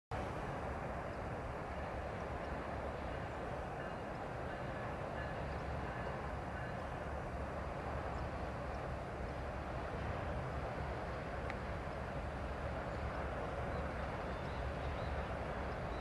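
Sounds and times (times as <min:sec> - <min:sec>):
freight train rumbling: 0:00.1 - 0:16.0.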